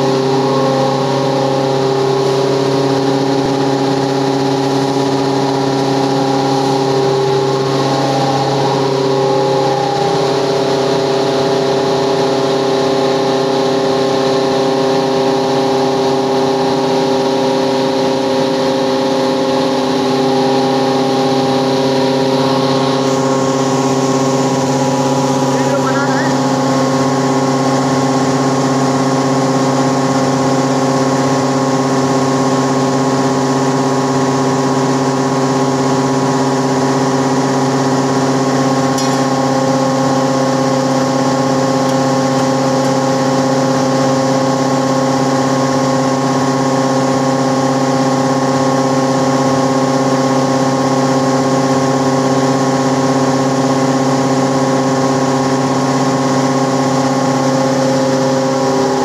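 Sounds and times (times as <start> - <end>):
grinding machine humming: 0.0 - 59.0.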